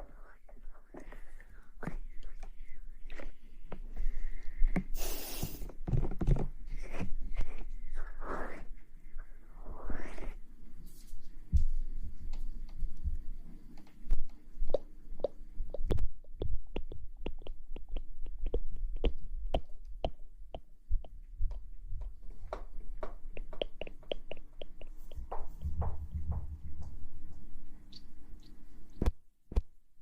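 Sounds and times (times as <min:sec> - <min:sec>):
faint steady hum: 0:00.0 - 0:29.2.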